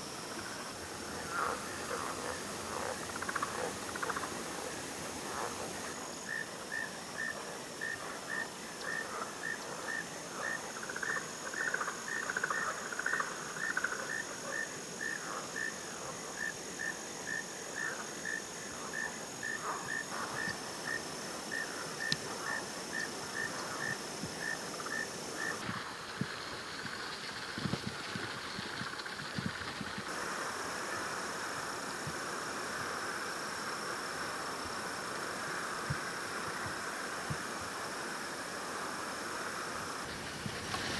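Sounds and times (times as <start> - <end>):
insect chirp: 0.0 - 40.9
insect high-pitched drone: 0.0 - 40.9.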